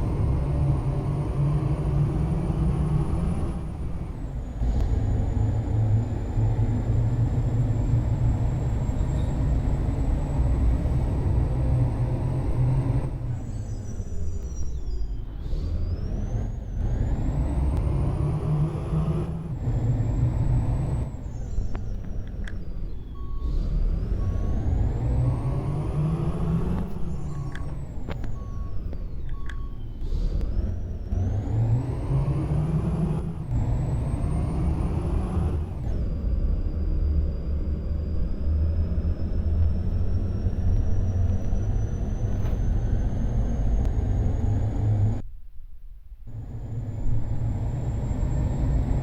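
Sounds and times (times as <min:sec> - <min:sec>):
truck diesel engine revving: 0:00.0 - 0:45.2, 0:46.3 - 0:49.0.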